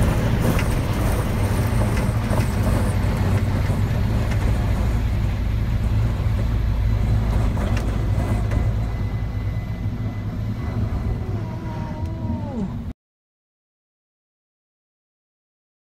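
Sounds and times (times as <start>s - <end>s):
helicopter rotors beating: 0.0s - 12.9s.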